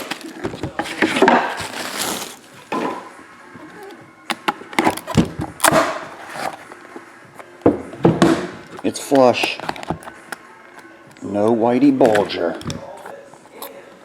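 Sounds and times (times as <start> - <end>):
packaging rustling and scraping: 0.0 - 4.0, 4.7 - 7.6, 8.7 - 13.8.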